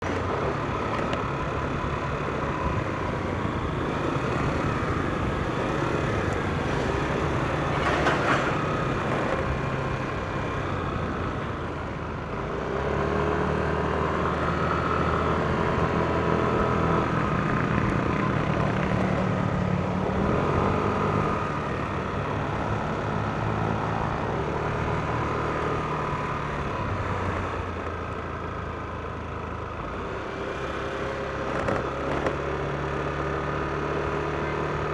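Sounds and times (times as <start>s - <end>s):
scooter engine running: 0.0s - 12.8s, 13.6s - 34.9s
wind and road noise: 0.0s - 34.9s.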